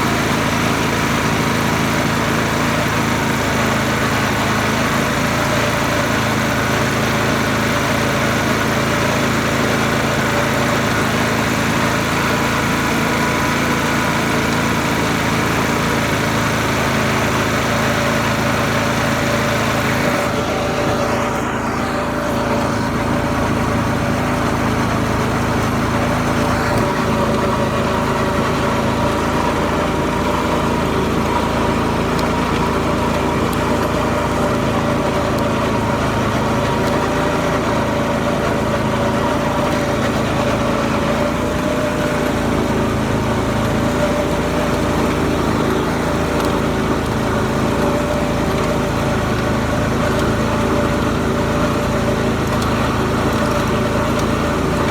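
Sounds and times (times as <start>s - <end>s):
garden tractor engine running: 0.0s - 54.9s.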